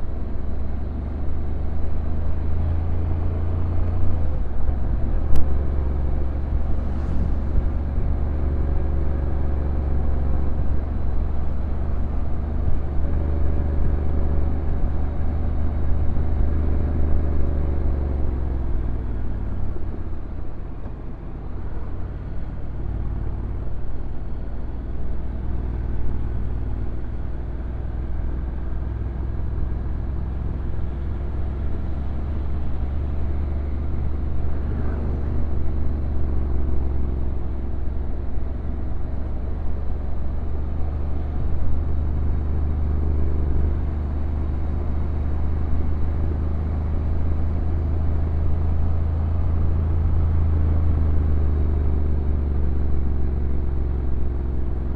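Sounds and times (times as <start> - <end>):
motorcycle engine low rumble: 0.0 - 54.9.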